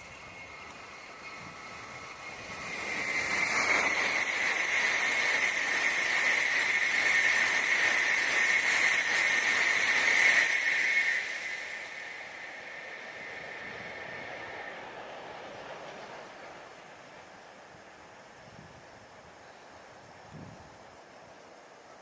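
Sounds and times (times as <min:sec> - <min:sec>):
train passing at speed: 0:00.0 - 0:20.2.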